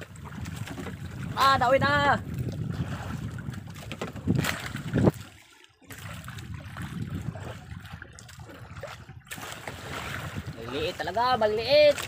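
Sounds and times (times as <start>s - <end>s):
water sloshing against a boat: 0.0s - 12.0s.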